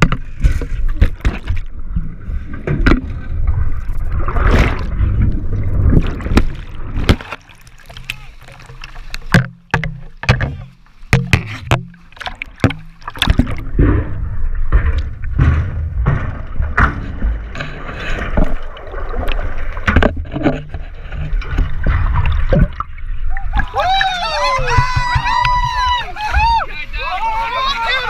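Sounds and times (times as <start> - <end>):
deep underwater rumble: 0.0 - 26.6
muffled underwater rushing and bubbling: 0.0 - 28.0
water splashing: 0.0 - 28.0.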